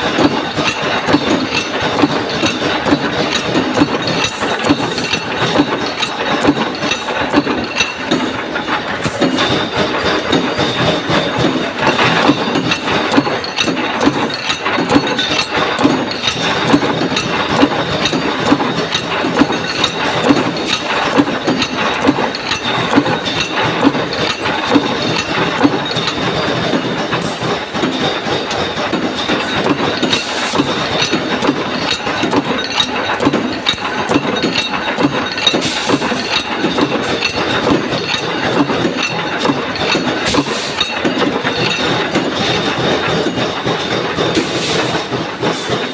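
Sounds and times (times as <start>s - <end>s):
punch press clattering: 0.0s - 44.7s.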